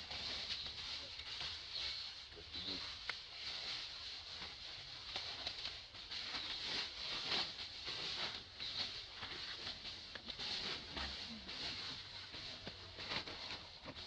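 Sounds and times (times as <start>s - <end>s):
dry leaves rustling: 0.0s - 14.0s.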